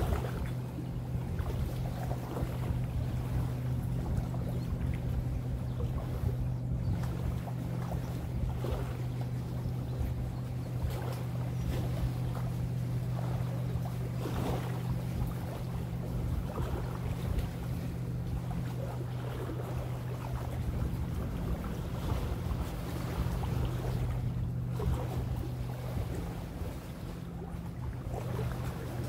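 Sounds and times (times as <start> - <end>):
low engine drone: 0.0 - 29.0
small waves lapping: 0.0 - 29.0
wind: 0.0 - 29.0.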